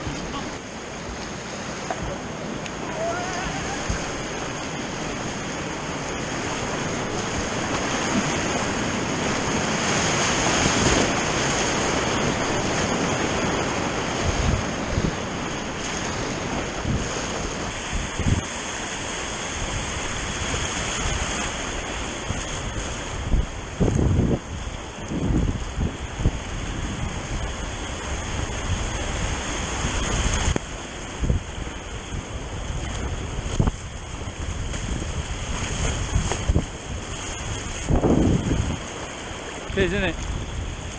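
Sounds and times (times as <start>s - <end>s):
rushing river water: 0.0s - 40.9s
wind buffeting microphone: 0.0s - 40.9s.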